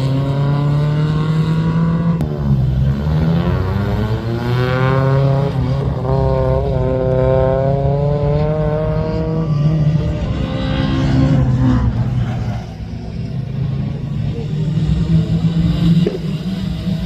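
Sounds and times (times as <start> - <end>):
car engine accelerating: 0.0 - 17.0
low engine drone: 0.0 - 17.0.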